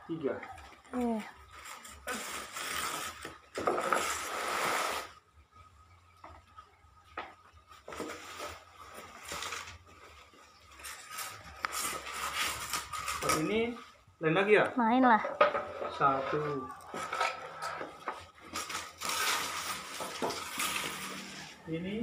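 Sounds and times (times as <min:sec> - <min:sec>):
plastic and cardboard rustling: 0:00.4 - 0:05.2, 0:06.4 - 0:14.0, 0:15.3 - 0:22.0.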